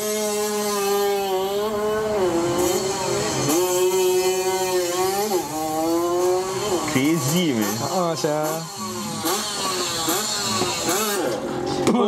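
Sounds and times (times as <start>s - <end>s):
motorbike engine revving high: 0.0s - 12.0s.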